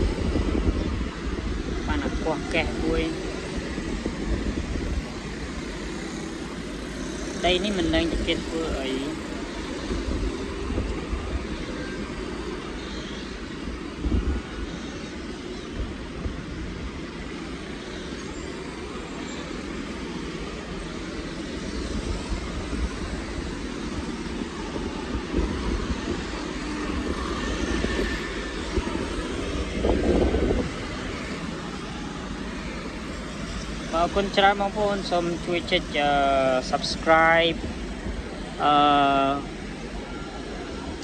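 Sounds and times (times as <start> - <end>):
traffic drone: 0.0 - 41.0
vehicles passing close: 0.0 - 41.0.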